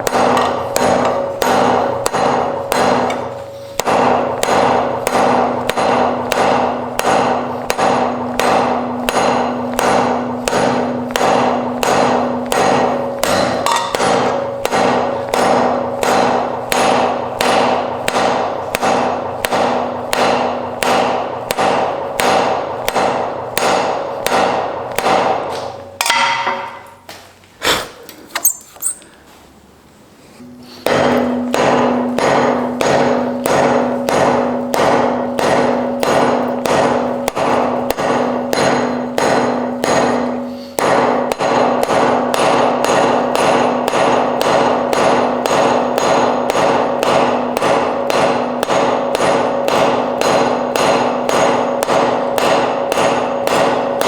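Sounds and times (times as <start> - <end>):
hammer striking iron on anvil: 0.0 - 27.1, 30.4 - 54.0.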